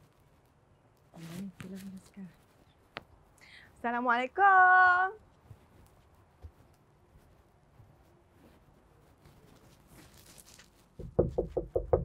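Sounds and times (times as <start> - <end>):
faint background hiss: 0.0 - 11.2.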